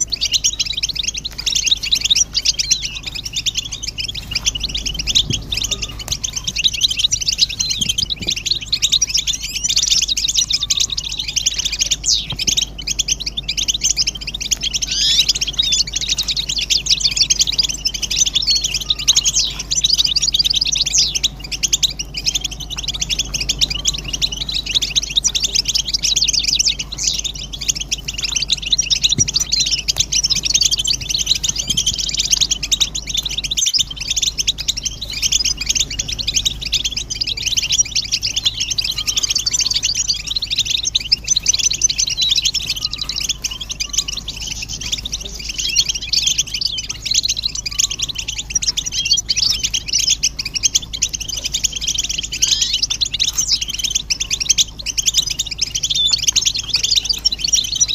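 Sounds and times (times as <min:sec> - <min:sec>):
goldfinches chattering and twittering: 0:00.0 - 0:57.9.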